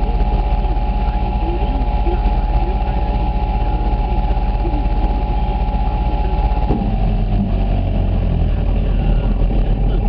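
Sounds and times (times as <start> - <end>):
atv engines idling: 0.0 - 10.0.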